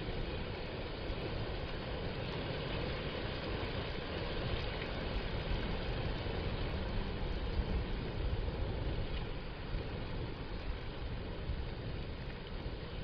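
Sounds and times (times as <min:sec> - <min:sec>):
gentle ocean surf: 0:00.0 - 0:13.0.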